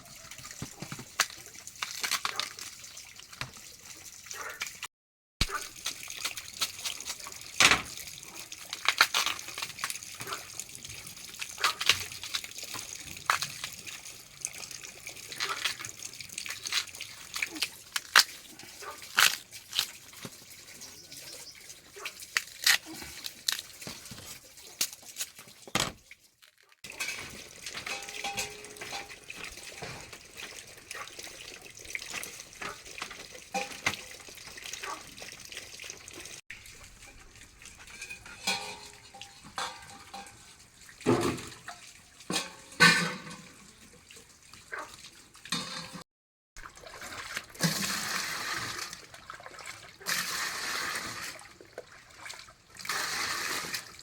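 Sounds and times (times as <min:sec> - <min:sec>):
water sloshing and splashing: 0:00.0 - 0:46.0, 0:46.6 - 0:54.0.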